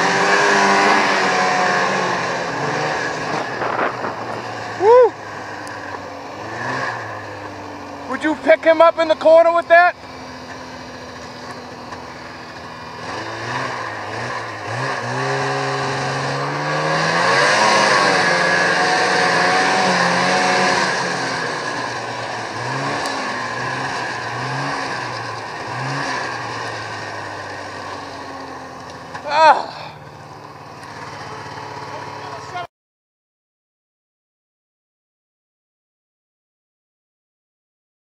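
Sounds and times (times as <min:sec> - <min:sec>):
snowmobile engines revving: 0:00.0 - 0:32.7.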